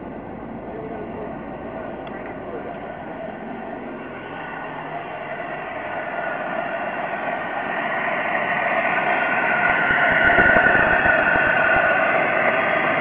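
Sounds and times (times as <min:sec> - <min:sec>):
supercharger whine: 0:00.0 - 0:13.0.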